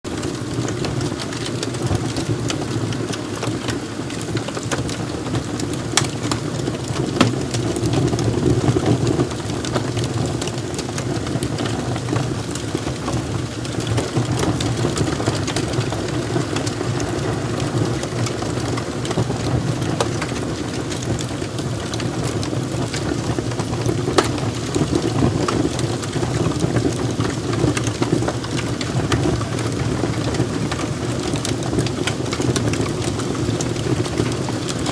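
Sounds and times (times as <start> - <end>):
burning wood crackling and popping: 0.1 - 34.9
low rush of flames: 0.1 - 34.9.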